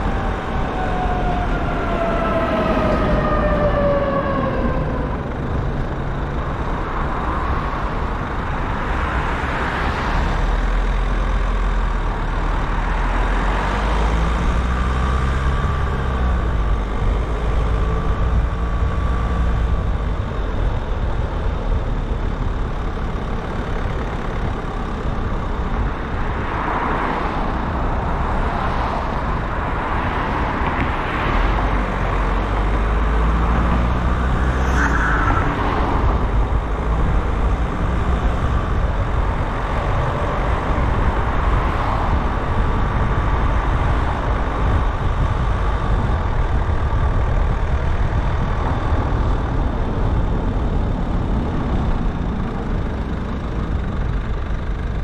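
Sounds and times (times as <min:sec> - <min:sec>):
car engine and tyre noise: 0:00.0 - 0:55.0
low road rumble: 0:00.0 - 0:55.0.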